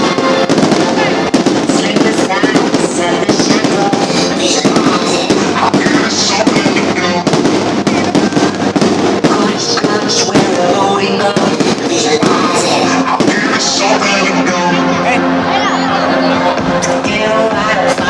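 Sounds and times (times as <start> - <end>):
fireworks banging: 0.0 - 14.9
music playing: 0.0 - 18.0.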